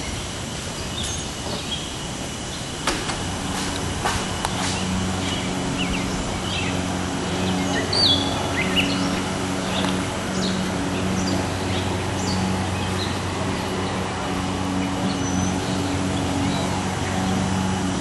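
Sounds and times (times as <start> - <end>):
birds chirping: 0.0 - 18.0
steady mechanical hum: 0.0 - 18.0.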